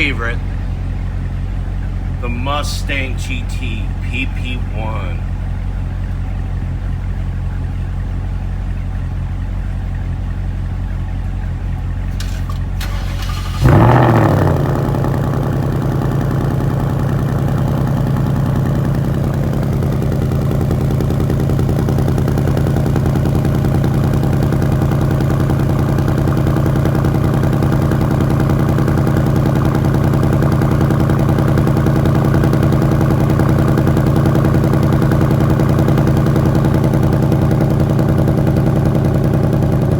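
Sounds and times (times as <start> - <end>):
another car engine idling: 0.0 - 39.9
car engine starting and idling: 0.0 - 39.9.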